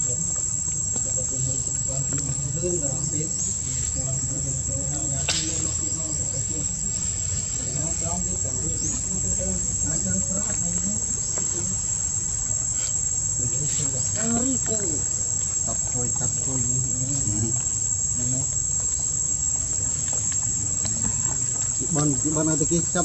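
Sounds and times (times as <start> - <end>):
faint voices murmuring: 0.0 - 23.0
high-pitched insect drone: 0.0 - 23.0.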